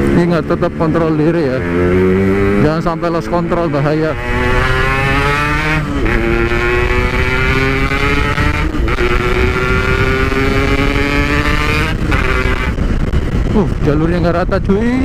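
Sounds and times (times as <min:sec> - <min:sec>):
motorcycle accelerating through gears: 0:00.0 - 0:14.2.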